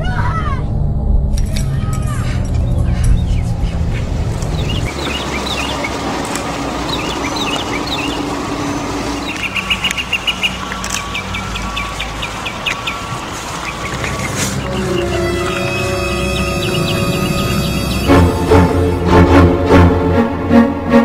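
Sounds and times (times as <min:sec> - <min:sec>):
low drone: 0:00.0 - 0:21.0
birds chirping: 0:02.1 - 0:19.0.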